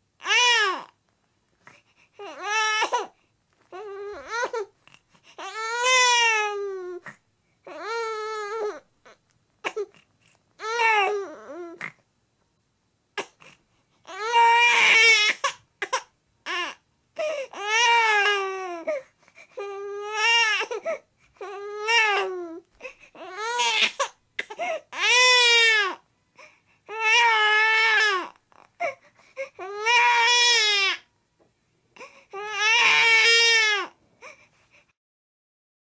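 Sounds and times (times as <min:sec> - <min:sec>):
baby crying: 0:00.2 - 0:01.0, 0:02.2 - 0:04.7, 0:05.3 - 0:10.0, 0:10.6 - 0:12.0, 0:13.2 - 0:31.1, 0:32.0 - 0:34.4.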